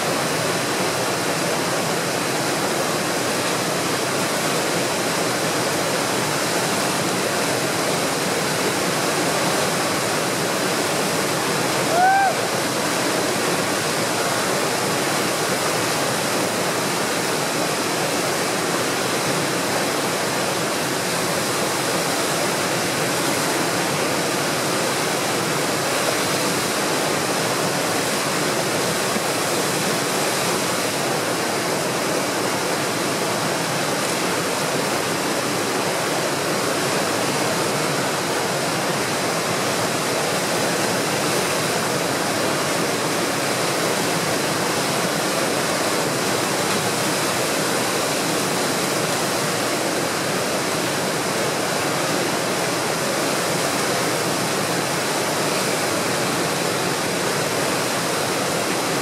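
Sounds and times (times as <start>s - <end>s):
rushing roar of tidal rapids: 0.0s - 59.0s.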